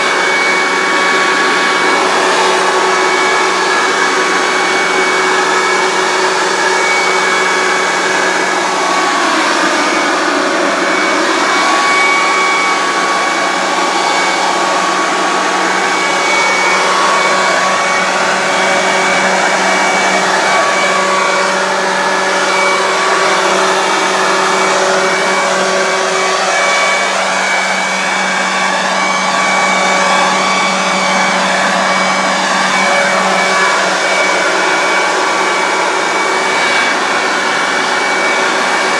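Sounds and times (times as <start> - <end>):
electric blower whining: 0.0 - 38.9.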